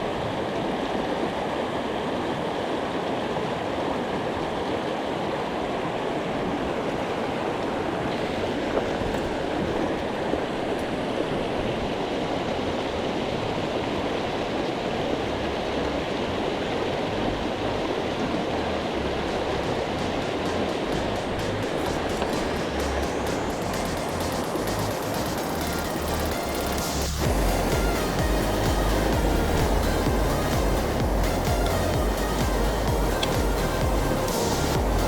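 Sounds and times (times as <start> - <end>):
mountain stream flowing: 0.0 - 35.0.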